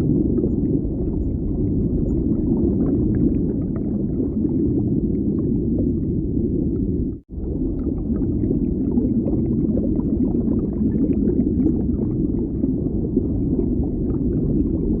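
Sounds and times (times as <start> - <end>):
deep underwater rumble: 0.0 - 15.0
faint bubbling: 0.0 - 15.0.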